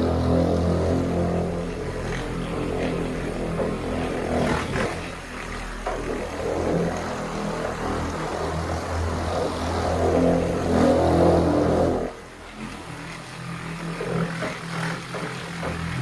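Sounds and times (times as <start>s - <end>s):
polisher motor hum: 0.0s - 16.0s.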